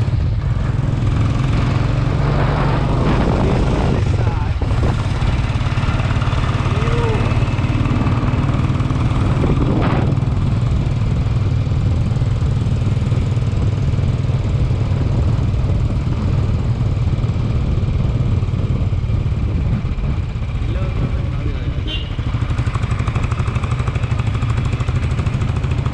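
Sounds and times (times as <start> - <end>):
dense rushing noise: 0.0 - 21.6
motorcycle engine running: 0.0 - 25.9.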